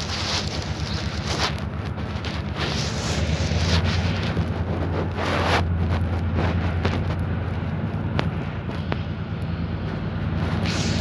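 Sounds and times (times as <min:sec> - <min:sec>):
train rumbling: 0:00.0 - 0:11.0
wind buffeting microphone: 0:00.0 - 0:11.0.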